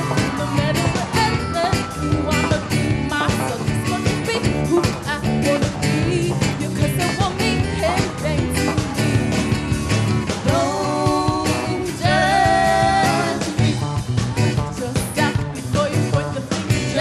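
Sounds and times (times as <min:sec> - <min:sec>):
woman singing: 0:00.0 - 0:08.9, 0:10.4 - 0:13.9, 0:14.5 - 0:17.0
live rock band playing: 0:00.0 - 0:17.0.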